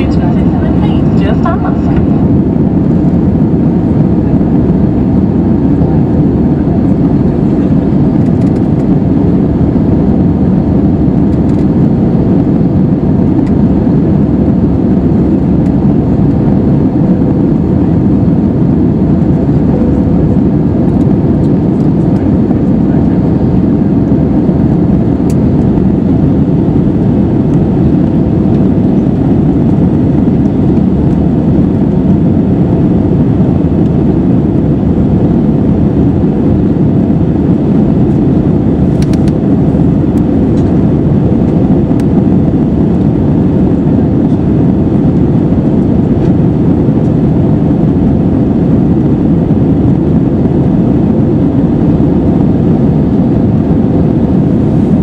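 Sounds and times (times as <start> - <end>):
air rushing past fuselage: 0.0 - 46.6
jet engines running: 0.0 - 55.0.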